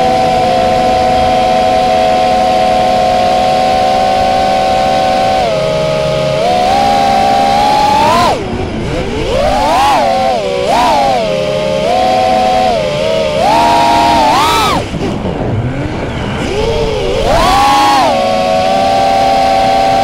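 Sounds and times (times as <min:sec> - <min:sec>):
model aircraft motor whining: 0:00.0 - 0:15.0, 0:15.9 - 0:20.0.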